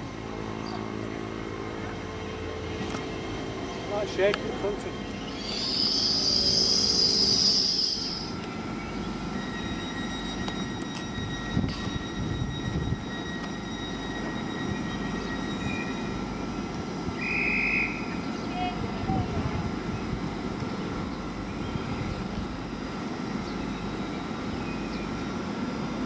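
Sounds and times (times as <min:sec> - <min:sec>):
train equipment humming: 0:00.0 - 0:26.0.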